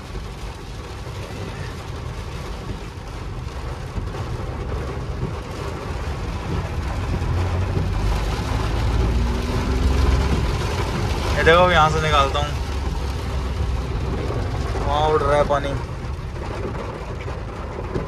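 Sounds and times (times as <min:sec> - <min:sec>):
engine and tyre rumble: 0:00.0 - 0:18.0
rain and water spray on car: 0:00.0 - 0:18.0.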